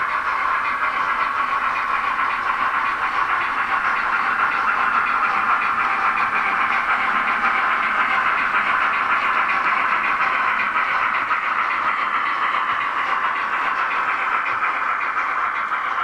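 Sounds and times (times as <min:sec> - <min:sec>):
model trains running on track: 0:00.0 - 0:16.0
rapid steam chuffing: 0:00.0 - 0:16.0.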